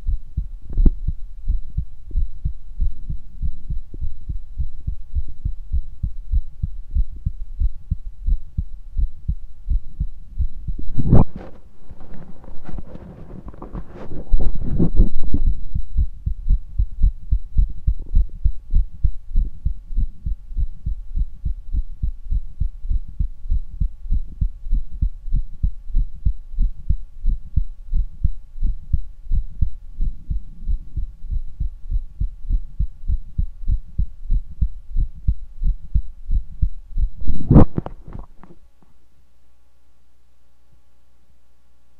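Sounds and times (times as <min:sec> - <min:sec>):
heartbeat thumps: 0:00.0 - 0:38.5.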